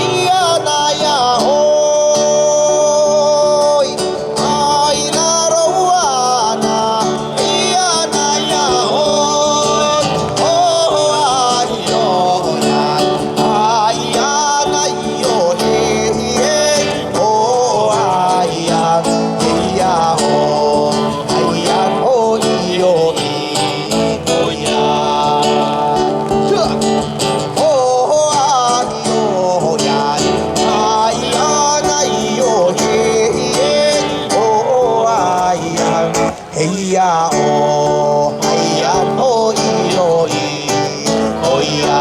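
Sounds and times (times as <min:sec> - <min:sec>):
acoustic guitar: 0:00.0 - 0:42.0
live band playing folk song: 0:00.0 - 0:42.0.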